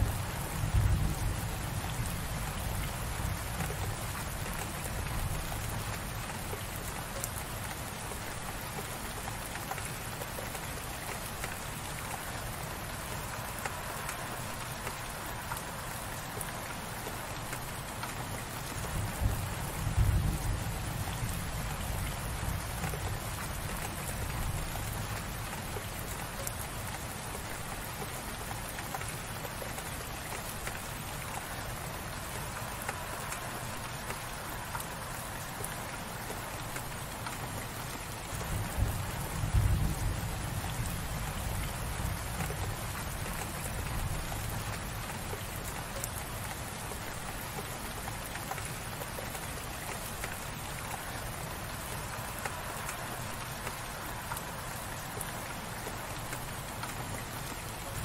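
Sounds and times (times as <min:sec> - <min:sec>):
light rain patter: 0:00.0 - 0:58.0.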